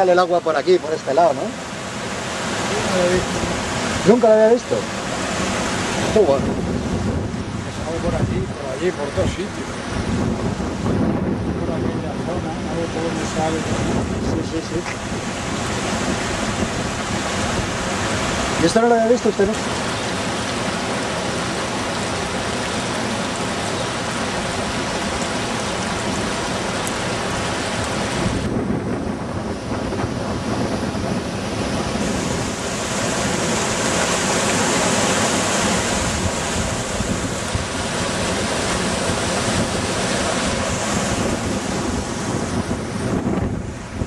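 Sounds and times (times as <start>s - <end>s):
whitewater rushing: 0.0s - 44.0s
wind buffeting microphone: 0.0s - 44.0s.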